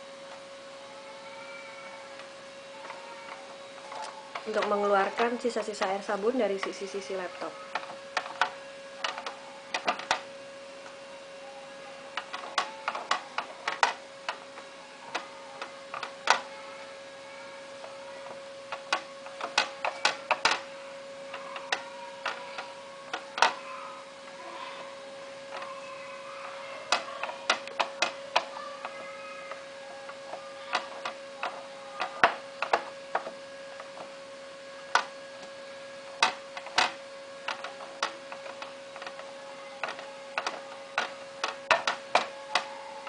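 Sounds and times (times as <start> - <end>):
faint hum: 0.0 - 43.0.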